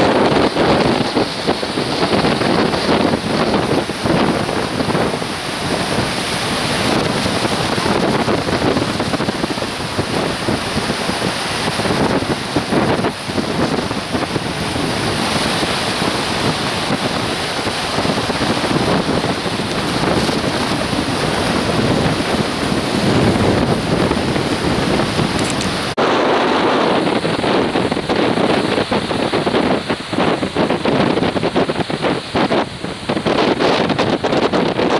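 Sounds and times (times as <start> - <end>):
waves breaking over rocks: 0.0 - 34.9
wind buffeting microphone: 0.0 - 34.9.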